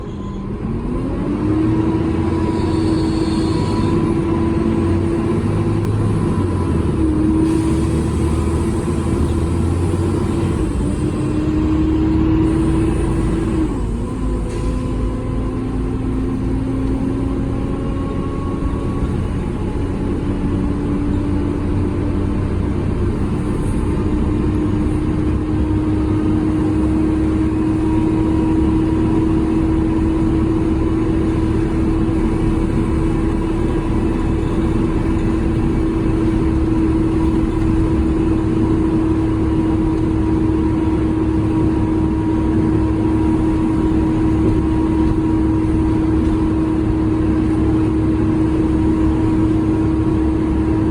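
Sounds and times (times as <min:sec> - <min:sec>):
bus engine whine: 0:00.0 - 0:50.9.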